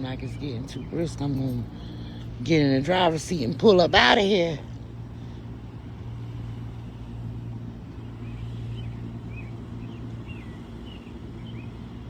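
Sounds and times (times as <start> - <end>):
large fans humming: 0.0 - 12.0.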